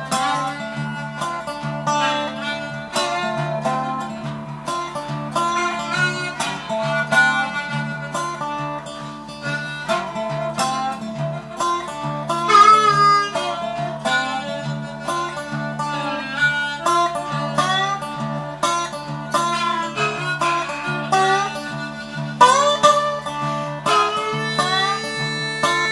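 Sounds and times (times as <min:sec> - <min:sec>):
blues harmonica playing: 0:00.0 - 0:25.9
slide resonator guitar: 0:00.0 - 0:25.9.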